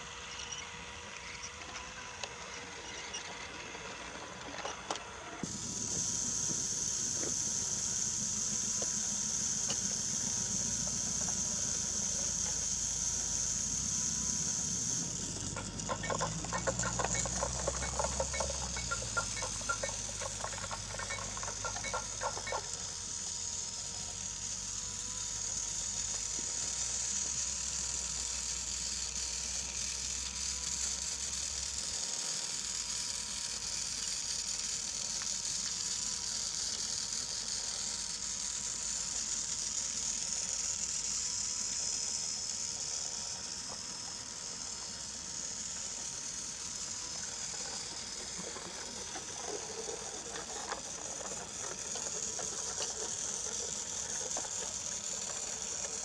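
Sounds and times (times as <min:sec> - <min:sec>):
toy train motor whirring: 0:00.0 - 0:56.0.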